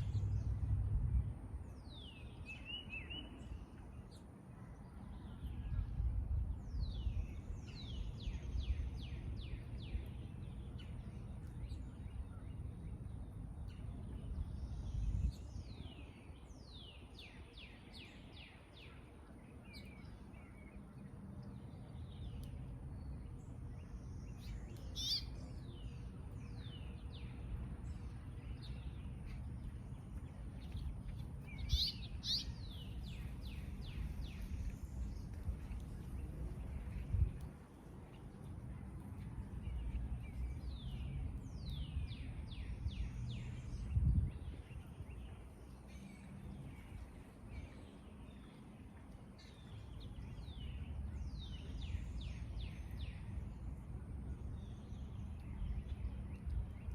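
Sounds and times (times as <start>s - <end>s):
songbirds singing: 0.0s - 56.9s.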